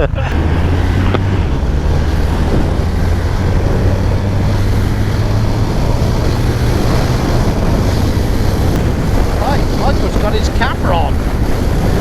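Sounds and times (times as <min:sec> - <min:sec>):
motorcycle engine drone: 0:00.0 - 0:12.0
wind noise rushing: 0:00.0 - 0:12.0.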